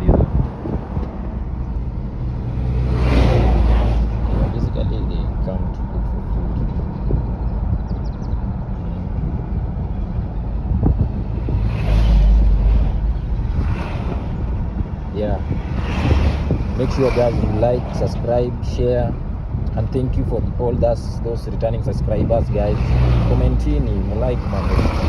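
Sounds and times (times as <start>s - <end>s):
vehicle engine and road rumble: 0.0s - 25.0s
wind buffeting microphone: 0.0s - 25.0s.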